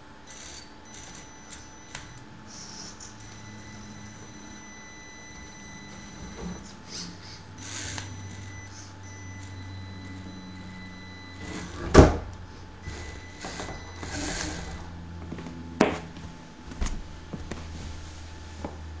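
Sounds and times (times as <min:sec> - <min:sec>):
electric motor and gearbox whirring: 0:00.0 - 0:16.2.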